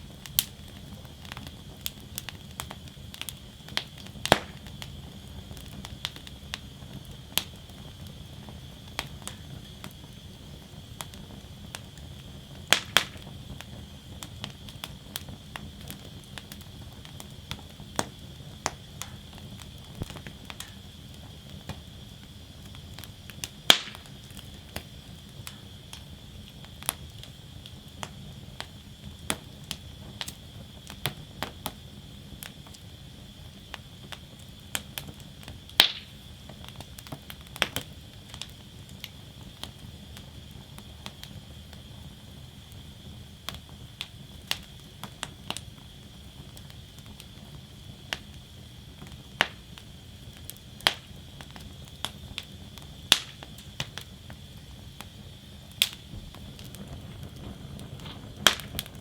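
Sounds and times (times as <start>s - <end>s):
low rush of flame: 0.0s - 59.0s
wood fire crackling: 0.0s - 59.0s.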